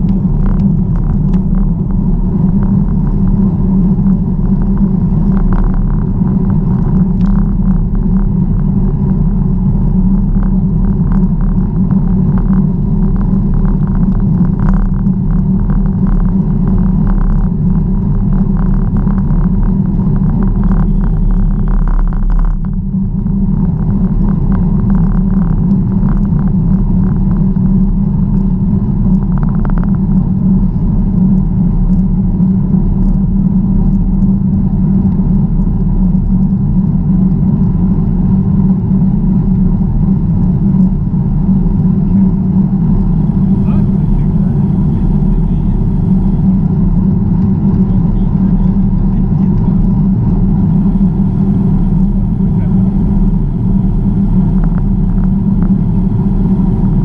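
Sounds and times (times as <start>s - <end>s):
bicycle tyres on road: 0.0s - 57.0s
wind on microphone: 0.0s - 57.0s.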